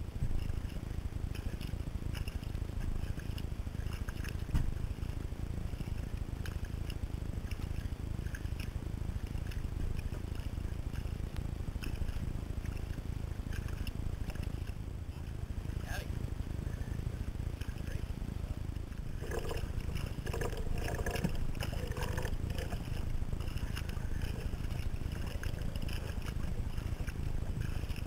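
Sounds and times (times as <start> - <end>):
muffled rumble of water and wind: 0.0 - 28.0
small ticks and splashes: 0.2 - 15.5, 18.9 - 28.0.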